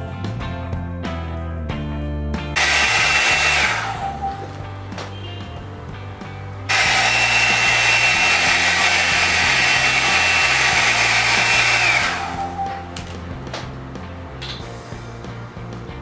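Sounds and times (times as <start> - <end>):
hot-air brush whining: 2.6 - 15.9.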